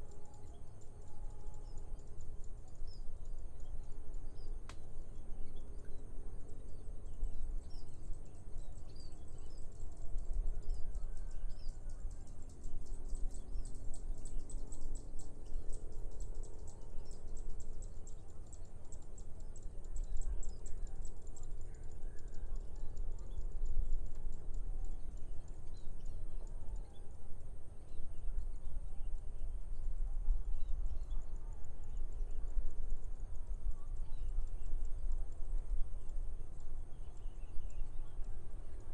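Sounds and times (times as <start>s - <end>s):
small birds chirping: 0.0s - 32.5s, 33.2s - 38.9s
low wind rumble: 0.0s - 38.9s.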